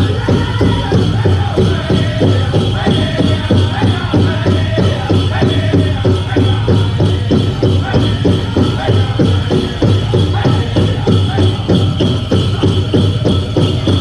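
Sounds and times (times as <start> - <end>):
big drum beating steadily: 0.0 - 14.0
singers chanting: 0.0 - 14.0.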